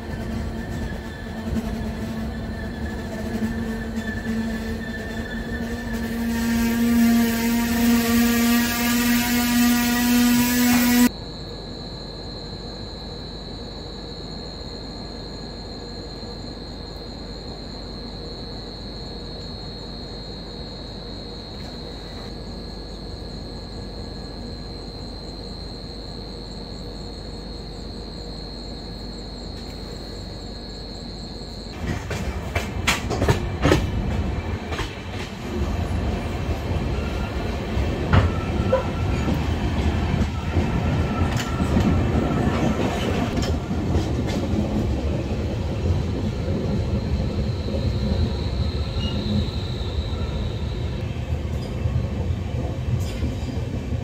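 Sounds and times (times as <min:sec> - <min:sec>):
passenger train on rails: 0:00.0 - 0:11.6, 0:12.3 - 0:54.0.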